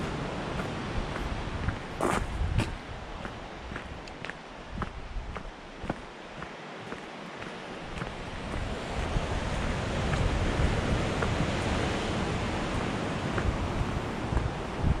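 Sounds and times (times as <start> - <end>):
faint footsteps on track: 0.0 - 15.0
sea surf rushing: 0.0 - 15.0
wind: 0.0 - 15.0.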